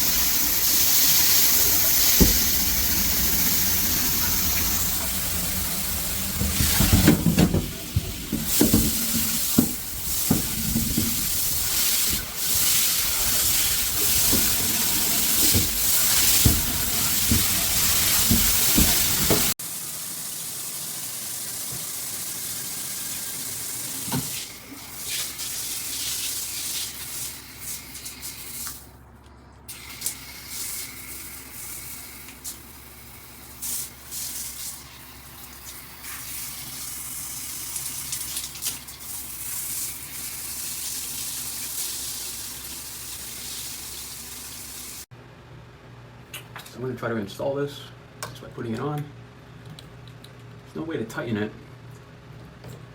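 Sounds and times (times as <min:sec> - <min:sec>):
water spraying from shower head: 0:00.0 - 0:28.8, 0:29.7 - 0:45.1.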